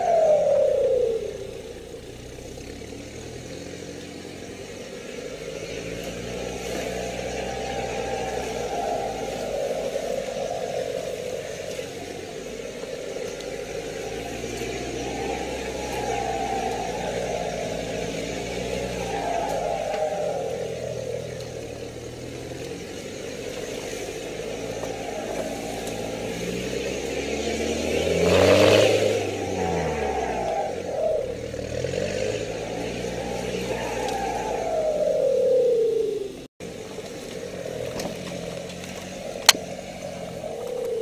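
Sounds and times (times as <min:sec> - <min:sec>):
off-road vehicle engine running: 0:00.0 - 0:35.4, 0:36.2 - 0:41.0.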